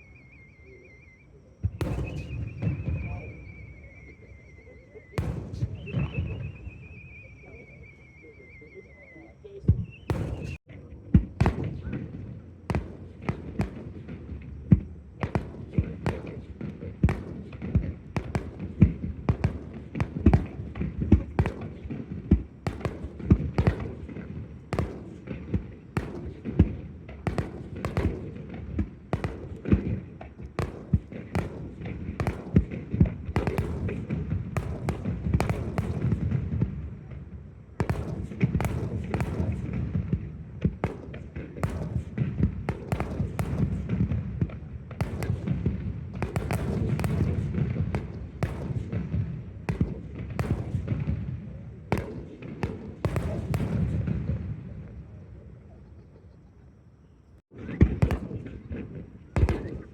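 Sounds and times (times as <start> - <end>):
fireworks bangs and crackling: 0.0 - 55.6, 57.4 - 59.9.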